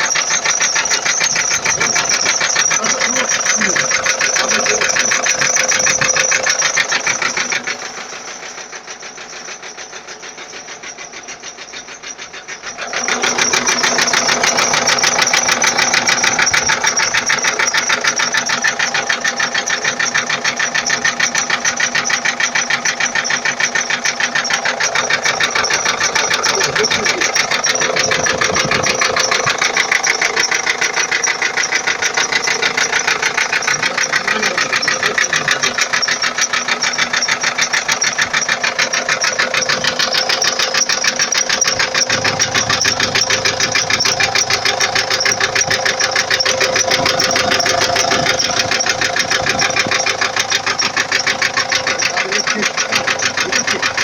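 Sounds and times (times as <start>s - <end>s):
diesel engine knocking: 0.0s - 54.0s.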